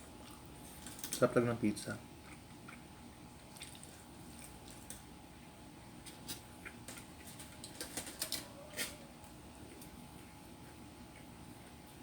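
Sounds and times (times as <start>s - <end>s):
person chewing pizza: 0.0s - 1.4s, 2.0s - 12.0s.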